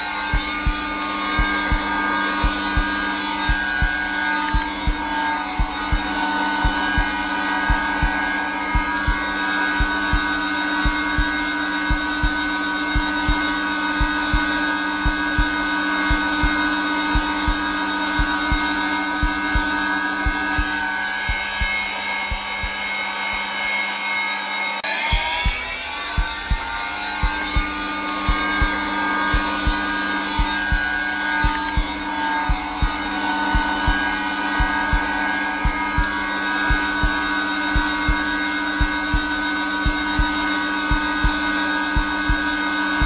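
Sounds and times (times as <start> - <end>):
heartbeat thumping: 0.0 - 23.6, 25.0 - 43.0
vacuum cleaner running: 0.0 - 43.0.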